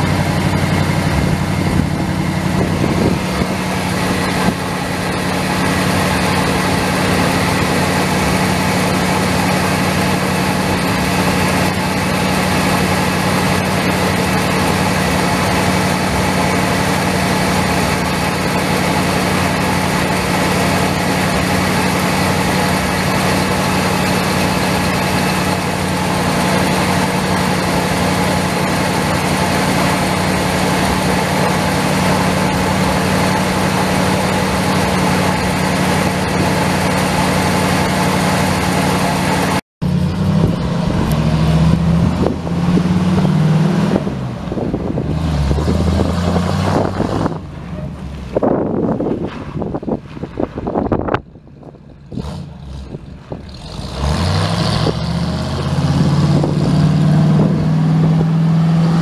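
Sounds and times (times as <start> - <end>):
truck engine idling: 0.0 - 53.7.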